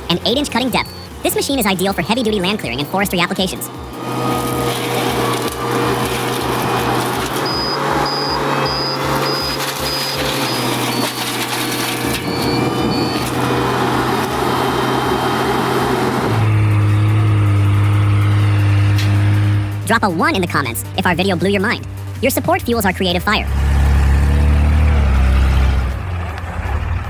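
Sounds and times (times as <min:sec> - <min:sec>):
mulcher grinding wood: 0:00.0 - 0:26.9
engine drone: 0:00.0 - 0:27.0.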